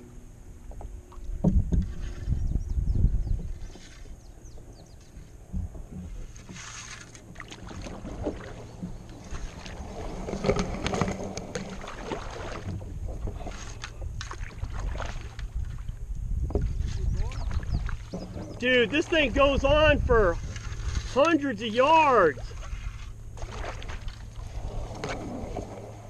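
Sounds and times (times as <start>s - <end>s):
clicks and knocks against boat: 0.6s - 19.4s, 20.4s - 25.9s
paddle splashing in water: 3.2s - 26.0s.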